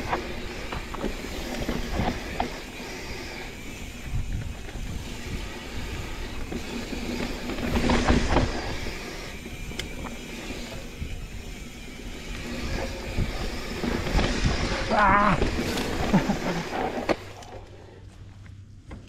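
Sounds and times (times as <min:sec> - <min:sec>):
bike rattling: 0:00.0 - 0:19.0
bike tyres rumbling on dirt: 0:00.0 - 0:19.0.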